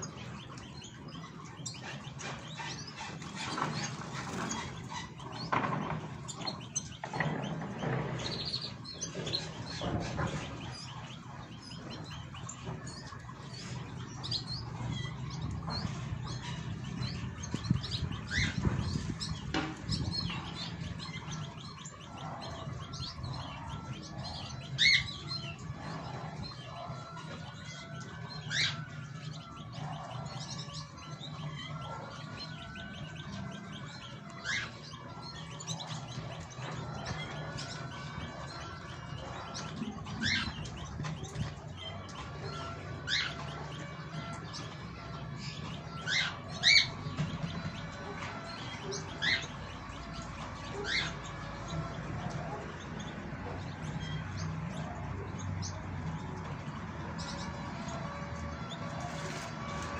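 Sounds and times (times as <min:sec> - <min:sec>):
songbirds chirping and calling: 0:00.0 - 0:59.9.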